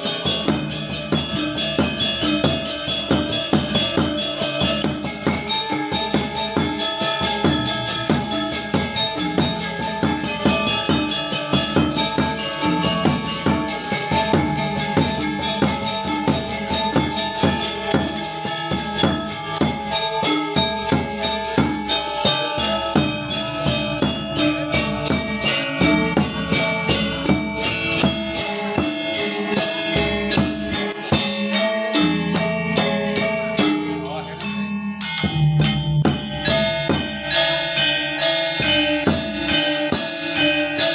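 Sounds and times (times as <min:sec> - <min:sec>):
gamelan ensemble playing: 0:00.0 - 0:40.9.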